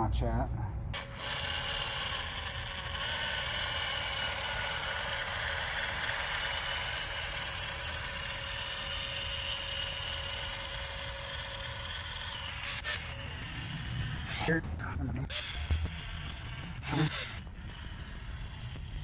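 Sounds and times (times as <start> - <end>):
electric caulking gun motor whine: 0.9 - 19.0.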